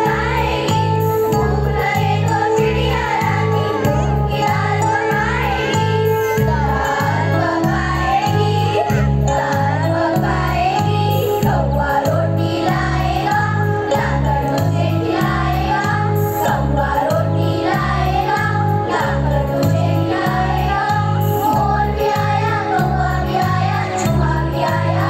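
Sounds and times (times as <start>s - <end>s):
children's choir singing: 0.0s - 25.0s.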